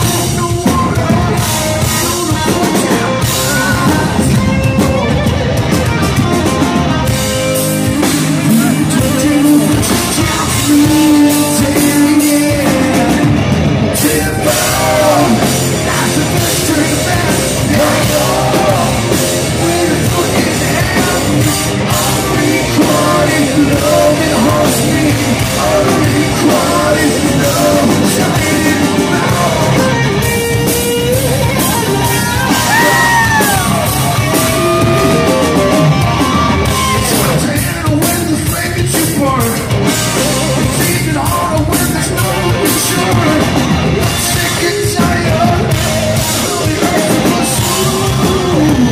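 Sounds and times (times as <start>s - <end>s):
bass guitar: 0.0s - 48.9s
drum kit: 0.0s - 48.9s
electric guitar: 0.0s - 48.9s
person singing and yelling: 0.0s - 48.9s.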